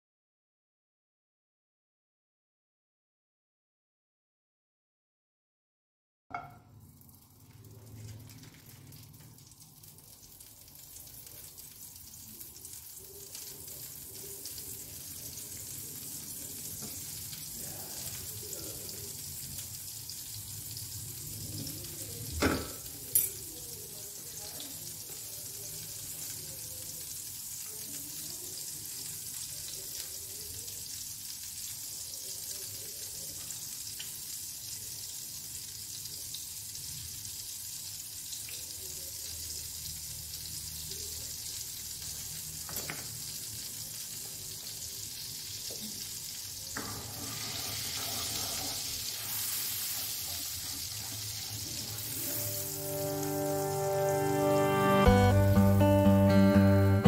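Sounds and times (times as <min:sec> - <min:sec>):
butter sizzling in a frying pan: 0:06.7 - 0:55.1.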